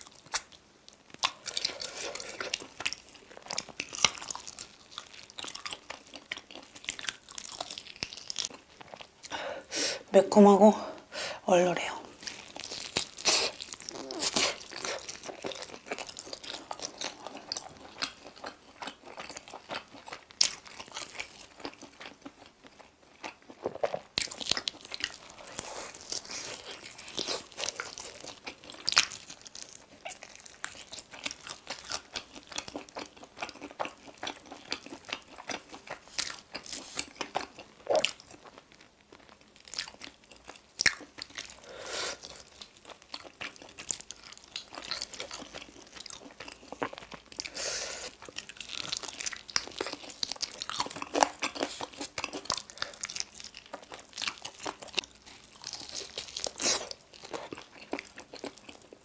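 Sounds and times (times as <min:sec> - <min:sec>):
chewing crunchy chicken wings: 0:00.0 - 0:09.4, 0:12.1 - 0:59.0.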